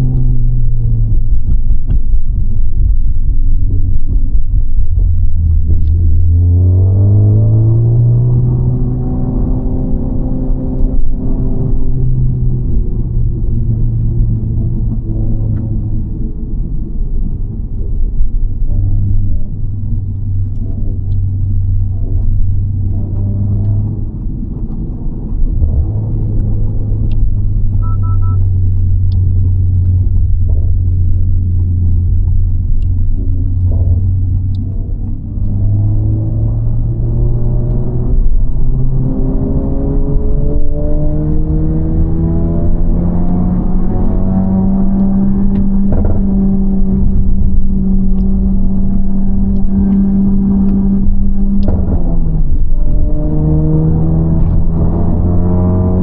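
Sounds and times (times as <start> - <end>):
car engine drone from inside cabin: 0.0 - 56.0.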